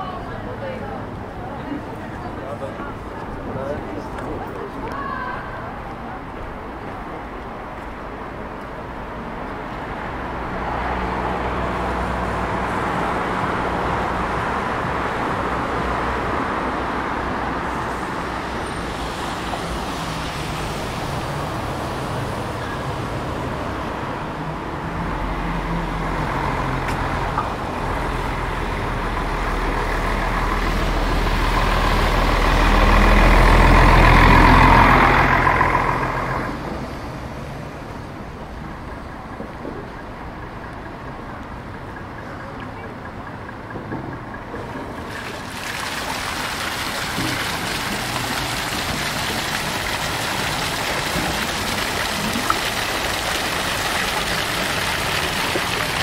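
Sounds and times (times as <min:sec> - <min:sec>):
city street traffic: 0:00.0 - 0:56.0
heavy vehicle engine rumble: 0:00.0 - 0:56.0.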